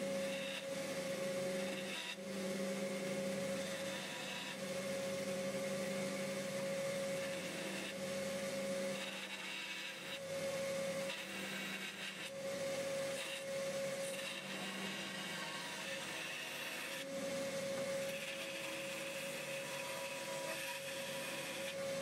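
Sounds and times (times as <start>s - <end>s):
bandsaw running: 0.0s - 22.0s
blade rasping through wood: 0.0s - 22.0s.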